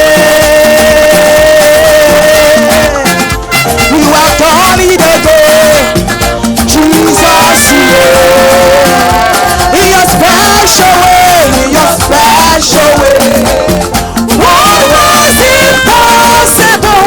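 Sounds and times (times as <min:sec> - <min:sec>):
band playing upbeat music: 0:00.0 - 0:17.0
person singing melody: 0:00.0 - 0:17.0.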